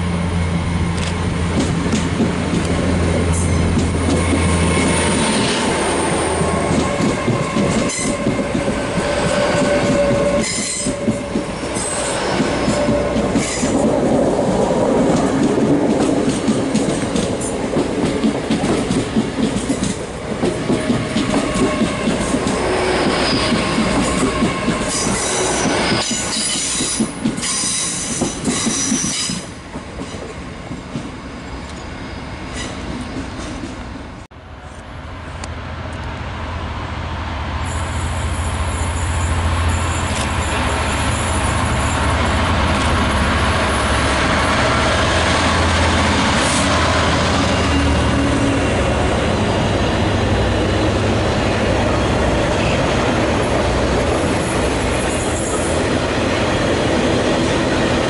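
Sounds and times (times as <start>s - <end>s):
diesel locomotive drone: 0.0s - 58.0s
train wheel-on-rail noise: 0.0s - 58.0s.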